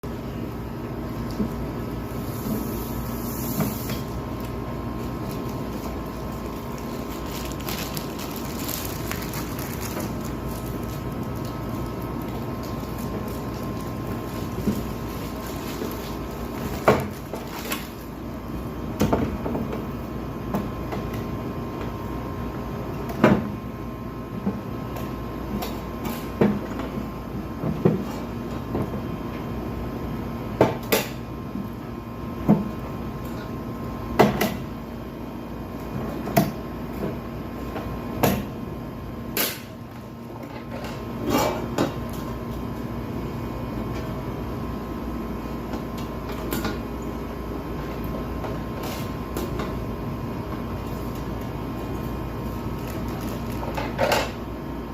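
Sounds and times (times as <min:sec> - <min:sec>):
steady hum: 0:00.0 - 0:54.9.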